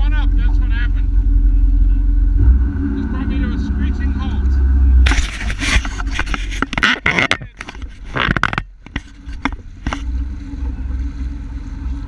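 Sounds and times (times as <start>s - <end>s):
watercraft engine humming: 0.0s - 12.0s.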